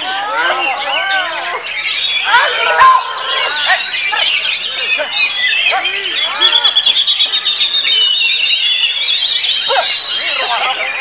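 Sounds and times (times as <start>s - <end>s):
high bird trill: 0.0s - 11.0s.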